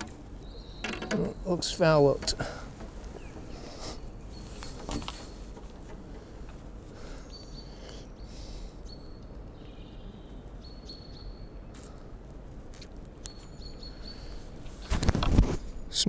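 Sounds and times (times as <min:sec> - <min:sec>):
low background rumble: 0:00.0 - 0:14.9
small bird calling: 0:00.0 - 0:15.0.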